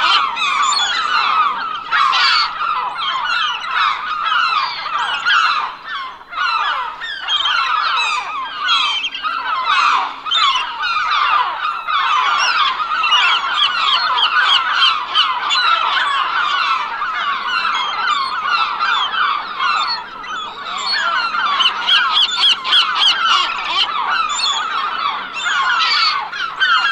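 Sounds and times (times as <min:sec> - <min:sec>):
flock of seagulls calling: 0:00.0 - 0:26.9.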